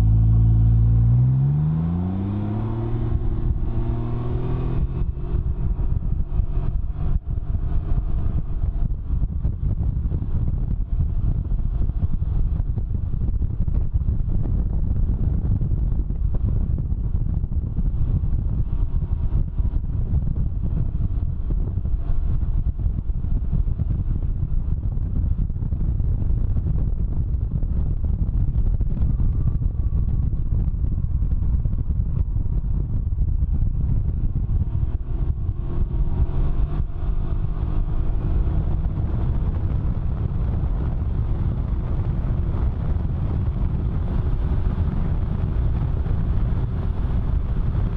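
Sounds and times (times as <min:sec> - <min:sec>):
engine running: 0:00.0 - 0:47.9
wind buffeting microphone: 0:00.0 - 0:47.9.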